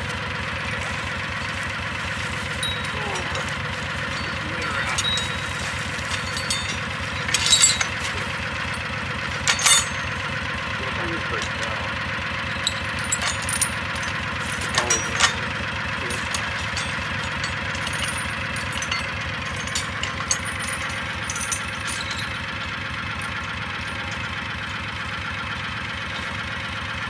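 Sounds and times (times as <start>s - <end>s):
engine idling: 0.0s - 27.0s
metal clinks and clanks: 0.0s - 27.0s.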